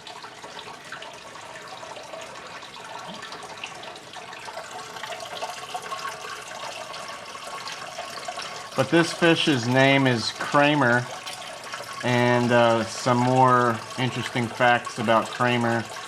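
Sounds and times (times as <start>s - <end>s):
aquarium filter water trickling: 0.0s - 16.0s.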